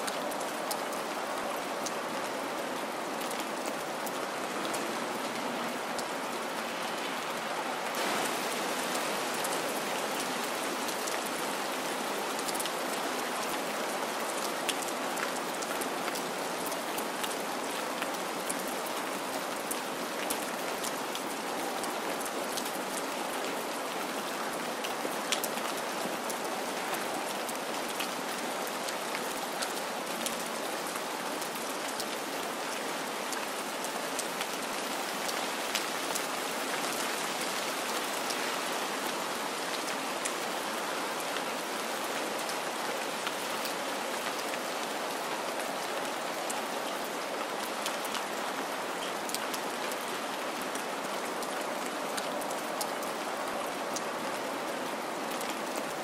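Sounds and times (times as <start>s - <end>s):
raindrops ticking on surface: 0.0s - 55.9s
steady rain hiss: 0.0s - 56.0s.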